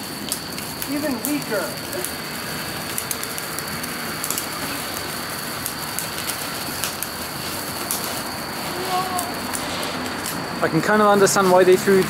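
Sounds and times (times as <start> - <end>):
faint firework crackles: 0.0 - 12.0
firework hissing: 0.0 - 12.0.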